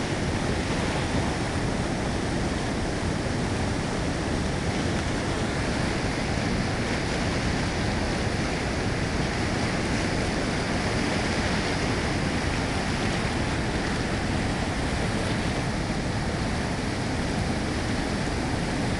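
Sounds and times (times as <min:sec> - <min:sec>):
river rapids rushing: 0:00.0 - 0:18.9.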